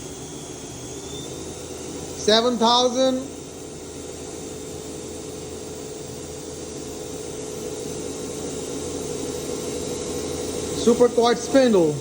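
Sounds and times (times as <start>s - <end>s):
machine spindle whine: 0.0s - 12.0s.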